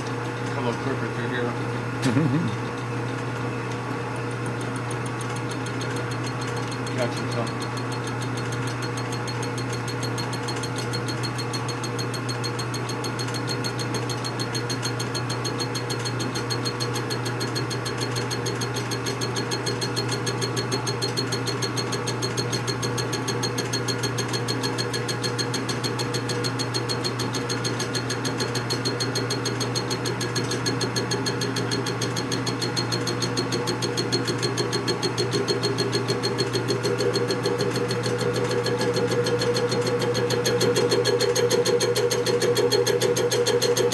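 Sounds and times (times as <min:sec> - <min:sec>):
machine tool humming and pulsing: 0:04.2 - 0:43.9.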